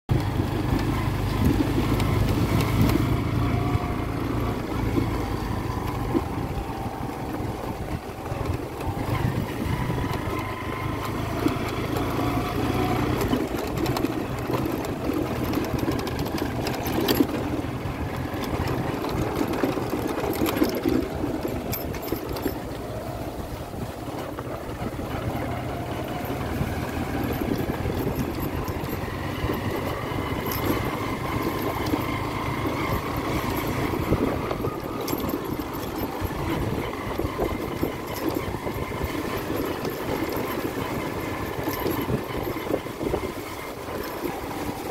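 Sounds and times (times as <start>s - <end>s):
motorcycle engine running: 0.1s - 44.9s.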